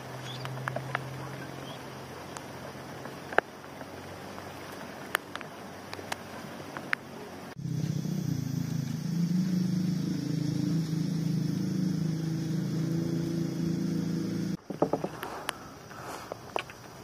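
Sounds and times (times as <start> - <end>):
engine running: 0.0 - 15.2.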